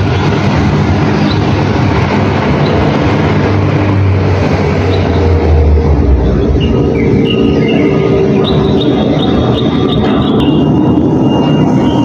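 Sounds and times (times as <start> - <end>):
low motor rumble: 0.0 - 12.0.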